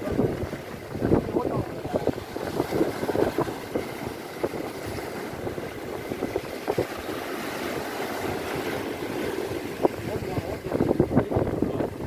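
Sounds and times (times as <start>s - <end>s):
sea waves: 0.0s - 12.0s
wind buffeting microphone: 0.0s - 12.0s.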